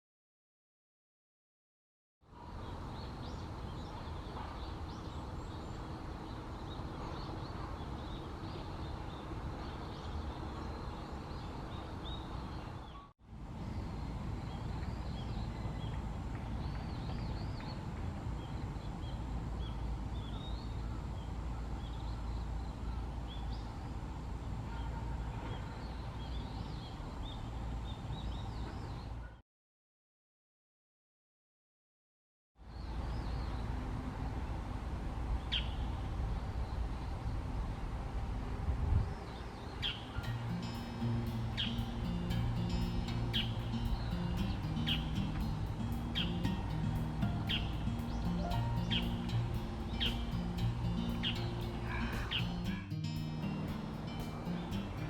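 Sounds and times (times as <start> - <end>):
songbirds chirping: 2.3 - 29.4, 32.6 - 34.6, 38.9 - 55.0.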